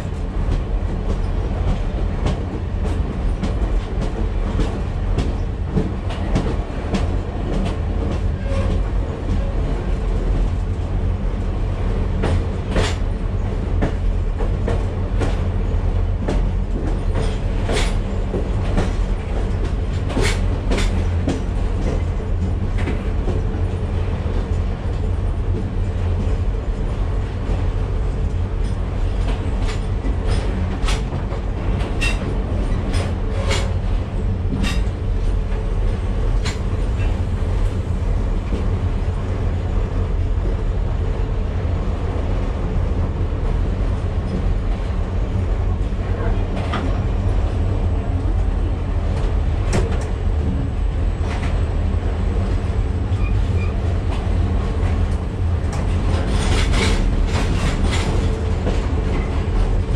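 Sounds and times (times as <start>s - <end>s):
train coach rumbling on track: 0.0s - 59.9s.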